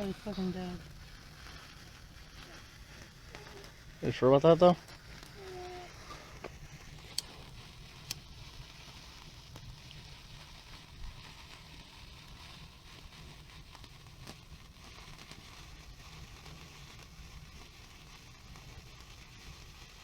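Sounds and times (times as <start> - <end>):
crackling and fizzing fireworks: 0.0 - 20.0.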